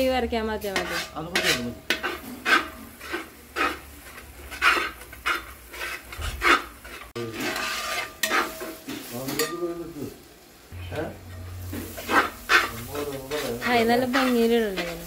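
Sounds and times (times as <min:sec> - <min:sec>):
spoon scraping a cooking pan: 0:00.6 - 0:09.7, 0:11.2 - 0:15.0.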